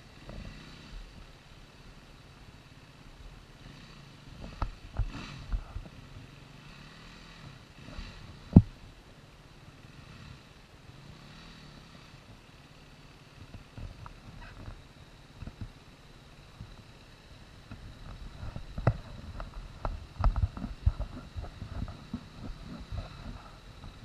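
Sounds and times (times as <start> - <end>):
distant motorcycle engine revving: 0.0 - 24.0.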